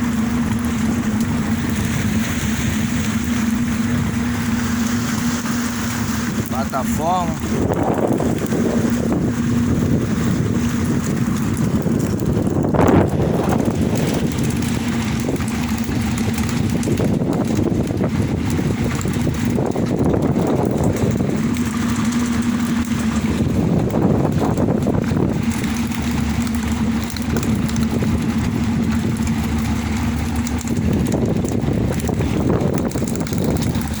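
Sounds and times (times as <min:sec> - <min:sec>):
boat engine humming: 0:00.0 - 0:34.0
wind and water rushing: 0:00.0 - 0:34.0.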